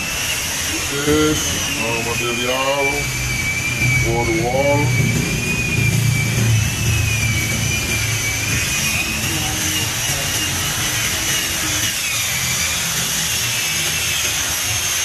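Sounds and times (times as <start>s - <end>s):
woodworking power tool whining: 0.0s - 15.0s.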